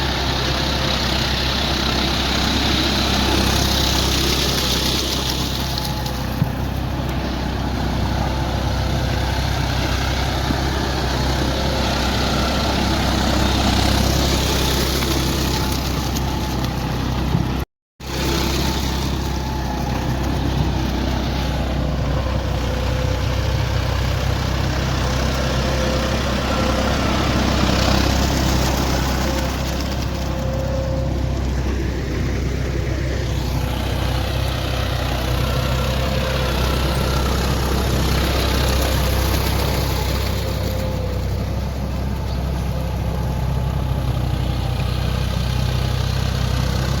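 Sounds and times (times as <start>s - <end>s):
rotavator churning mud: 0.0s - 47.0s
tractor diesel engine running: 0.0s - 47.0s.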